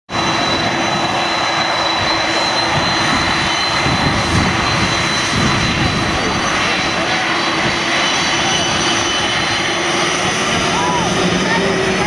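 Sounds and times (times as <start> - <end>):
jet engines roaring with whine: 0.1 - 12.0.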